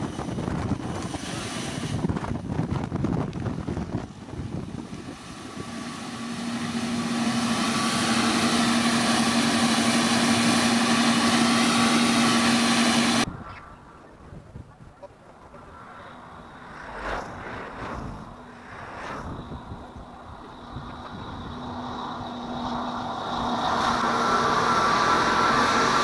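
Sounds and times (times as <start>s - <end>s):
jet engine whine: 0.0s - 26.0s.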